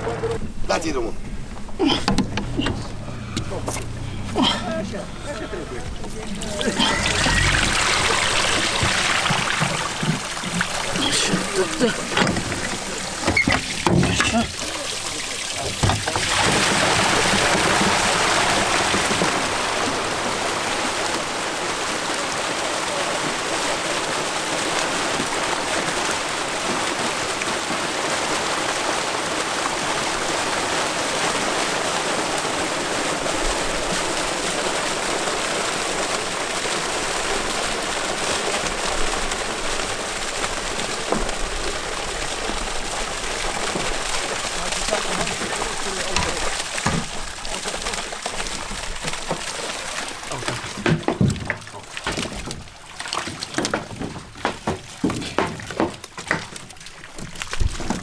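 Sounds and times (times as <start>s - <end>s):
water gushing and splashing: 0.0s - 58.0s.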